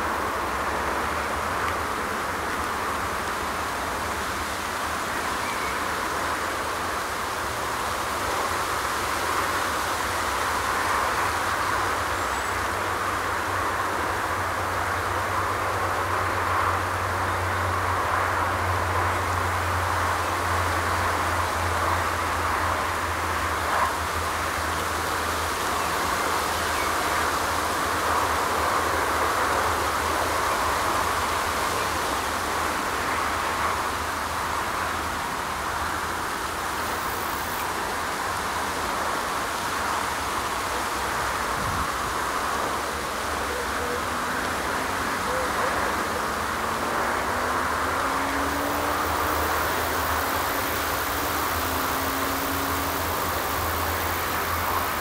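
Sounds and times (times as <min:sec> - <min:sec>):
constant hiss: 0:00.0 - 0:55.0.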